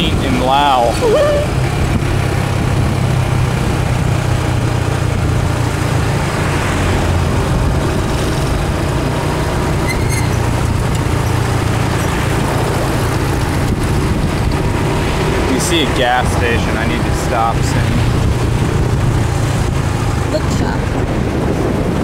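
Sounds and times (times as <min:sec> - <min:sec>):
motorcycle engine cruising: 0:00.0 - 0:22.0
wind and road noise: 0:00.0 - 0:22.0.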